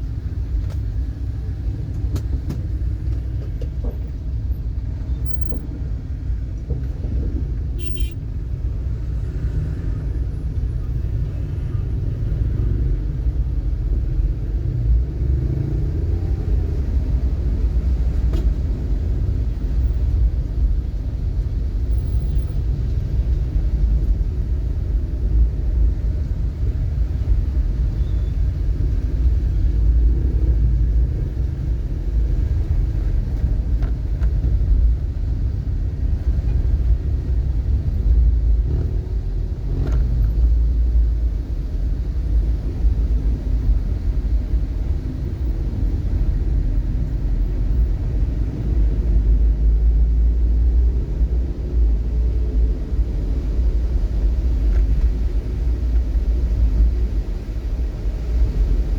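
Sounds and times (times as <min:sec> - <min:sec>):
vehicle road noise: 0:00.0 - 0:58.9.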